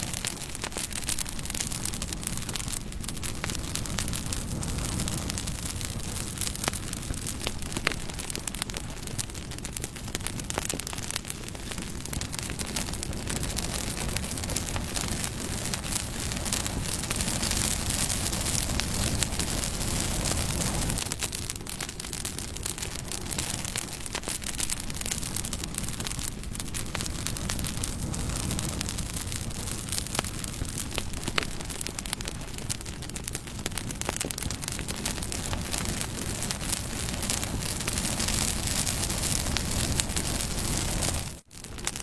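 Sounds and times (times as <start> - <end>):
burning wood crackling and popping: 0.0 - 42.0
rush of bonfire flames: 0.0 - 42.0.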